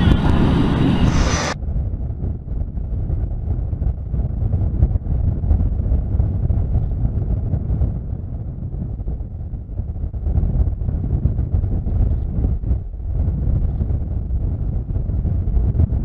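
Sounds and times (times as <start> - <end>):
deep rumbling jet noise: 0.0 - 16.0
wind buffeting microphone: 0.0 - 16.0.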